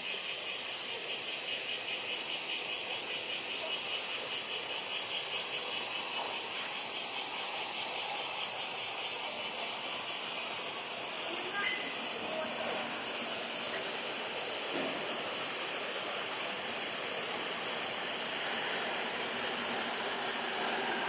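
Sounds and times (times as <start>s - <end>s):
insects shrilling: 0.0s - 21.0s.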